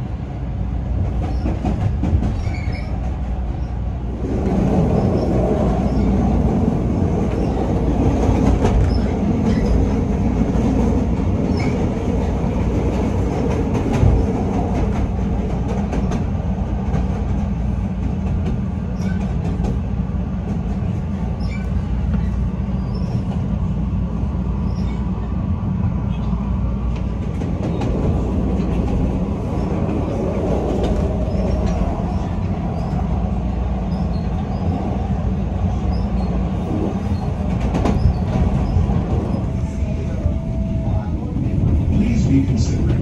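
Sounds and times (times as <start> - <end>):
train wheels rumbling on rail: 0.0 - 43.0
track clickety-clack: 0.9 - 23.7, 26.1 - 43.0.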